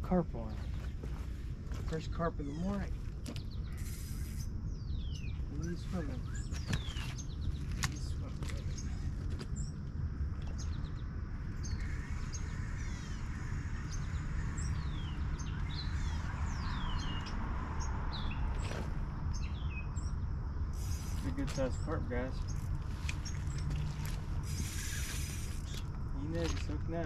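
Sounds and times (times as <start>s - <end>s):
low outdoor rumble: 0.0s - 27.0s
birds chirping: 0.1s - 27.0s.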